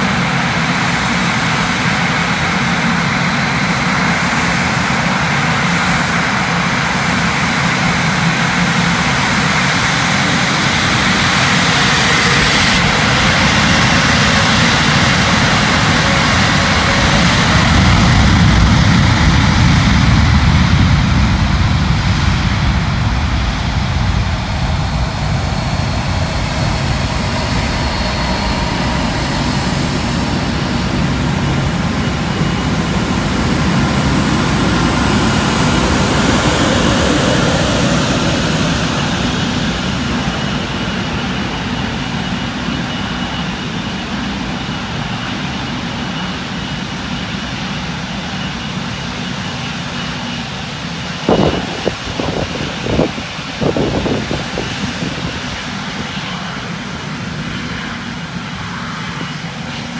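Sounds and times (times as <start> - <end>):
jet engines at takeoff power: 0.0 - 59.9.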